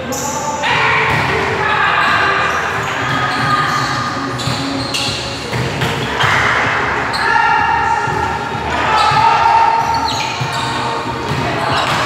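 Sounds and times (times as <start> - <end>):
volleyball hits: 0.7 - 12.0.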